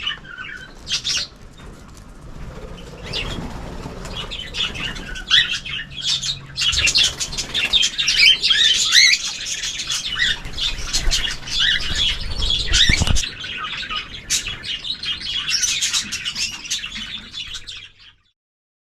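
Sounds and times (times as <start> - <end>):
birds chirping and chattering: 0.0 - 18.3.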